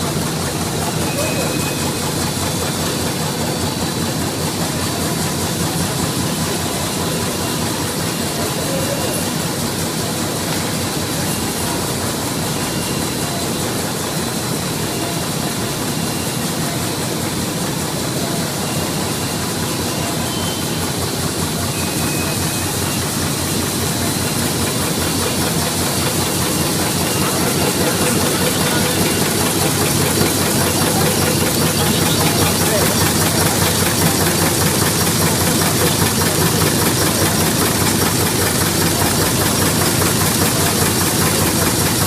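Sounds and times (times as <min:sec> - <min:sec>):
bag-making machine running: 0:00.0 - 0:42.0.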